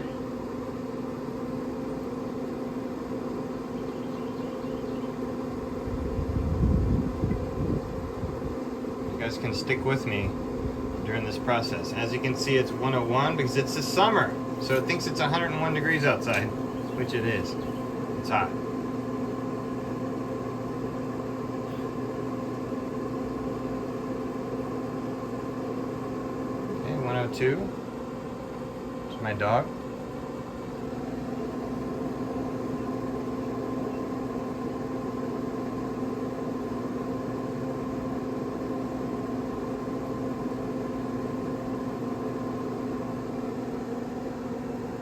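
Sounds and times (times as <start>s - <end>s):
grill fan humming: 0.0s - 45.0s.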